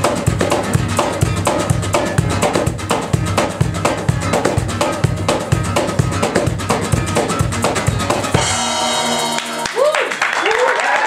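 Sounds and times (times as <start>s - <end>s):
acoustic guitar strumming: 0.0s - 9.8s.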